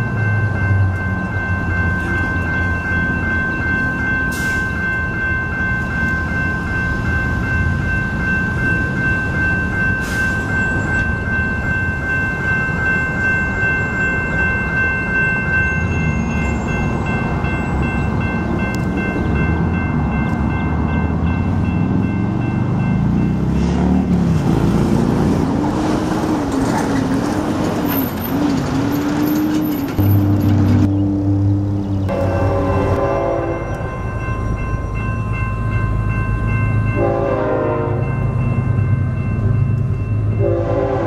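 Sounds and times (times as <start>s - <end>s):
diesel locomotives rumbling: 0.0s - 41.0s.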